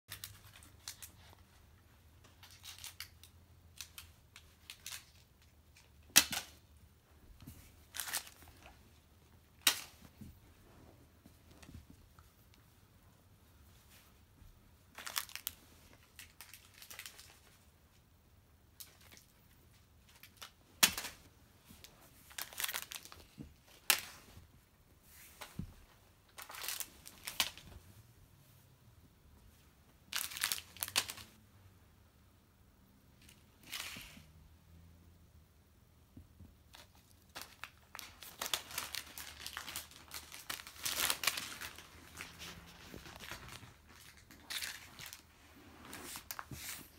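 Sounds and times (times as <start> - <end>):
rustling and crinkling: 0.1 - 31.4, 33.1 - 34.4, 36.1 - 46.9.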